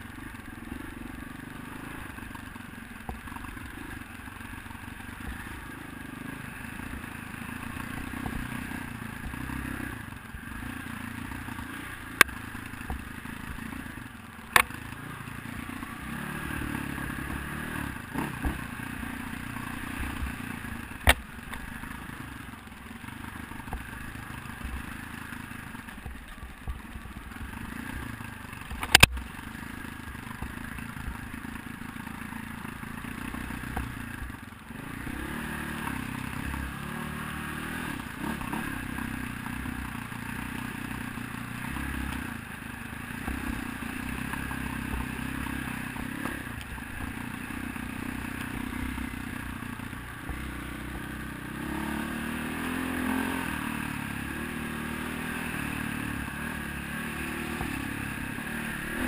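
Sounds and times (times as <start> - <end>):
dirt bike engine revving: 3.4 - 25.9, 30.5 - 59.0.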